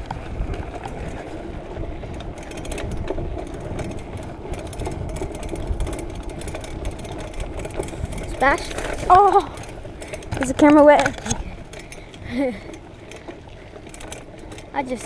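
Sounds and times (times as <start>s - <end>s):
wind rumble on microphone: 0.0s - 14.6s
bike mechanical whir: 0.0s - 15.0s.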